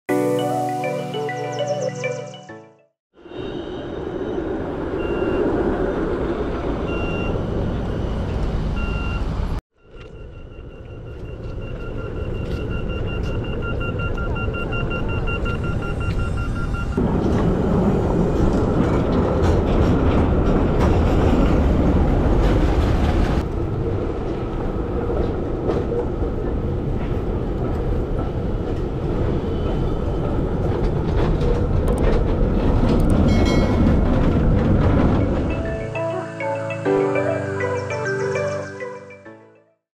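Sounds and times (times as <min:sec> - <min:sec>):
trams rolling on rails: 0:03.2 - 0:36.9.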